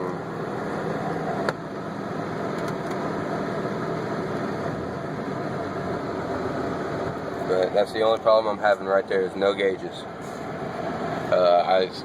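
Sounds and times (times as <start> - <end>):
blower fan blowing: 0.0 - 12.0
car engine idling: 0.0 - 12.0.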